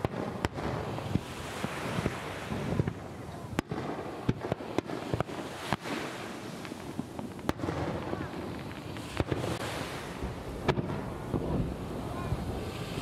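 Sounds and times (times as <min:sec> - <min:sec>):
fireworks bursting bangs: 0:00.0 - 0:13.0
low rumble of fireworks: 0:00.0 - 0:13.0.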